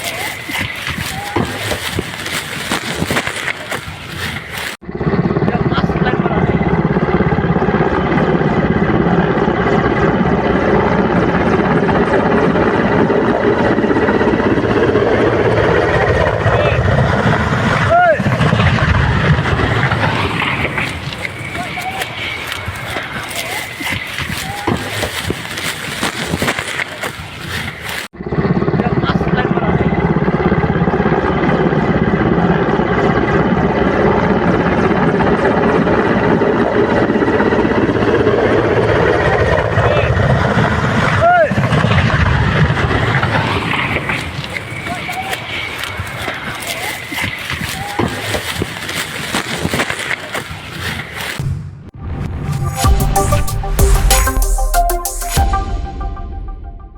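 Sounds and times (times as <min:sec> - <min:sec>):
helicopter rotor chopping: 0:00.0 - 0:47.1.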